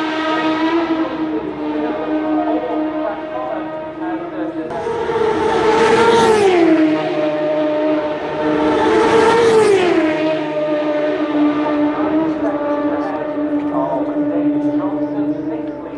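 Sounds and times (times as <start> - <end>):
racing motorcycles passing: 0.0 - 15.9.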